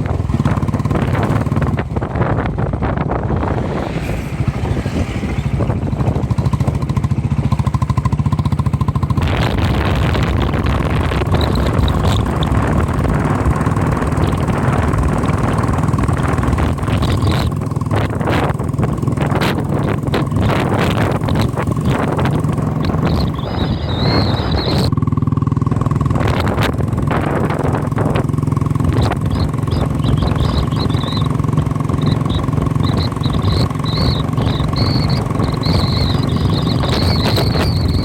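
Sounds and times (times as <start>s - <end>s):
vehicle engine running: 0.0s - 38.0s
wind and road noise: 0.0s - 38.0s.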